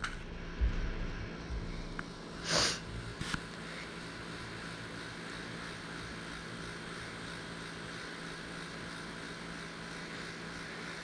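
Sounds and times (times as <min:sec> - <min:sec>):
low background hum and hiss: 0:00.0 - 0:11.0.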